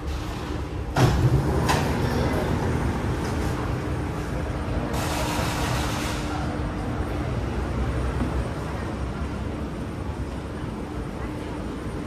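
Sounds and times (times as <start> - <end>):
train rumbling from inside: 0.0 - 12.0.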